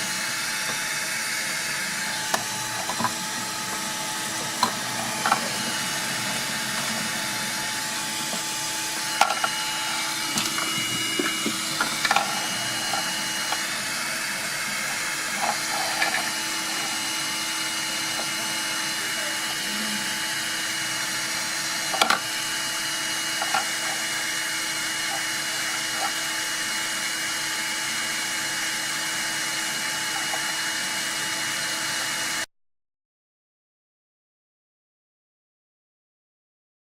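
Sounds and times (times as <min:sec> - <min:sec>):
machine whirring: 0:00.0 - 0:32.5.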